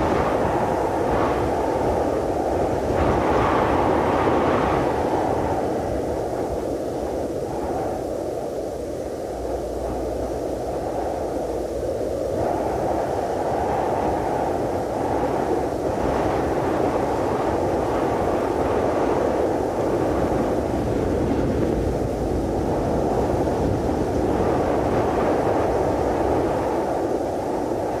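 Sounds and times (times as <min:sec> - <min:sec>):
rushing wind: 0:00.0 - 0:28.0.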